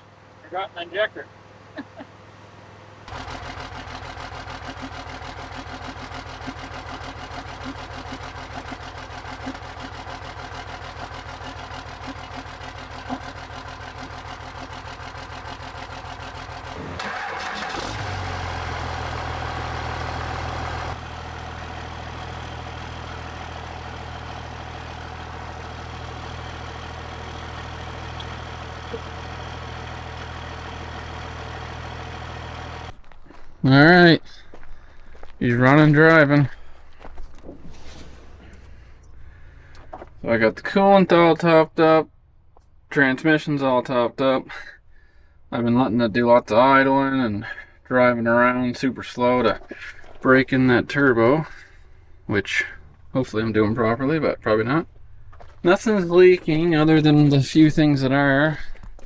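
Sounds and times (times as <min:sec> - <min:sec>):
diesel truck engine idling: 0:00.0 - 0:41.5, 0:46.6 - 0:59.0.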